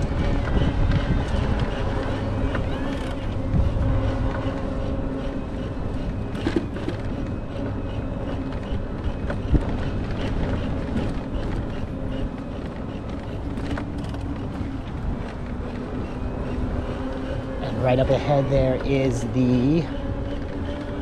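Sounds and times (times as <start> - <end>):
cargo bike riding rumble: 0.0 - 21.0
low hum: 0.0 - 21.0.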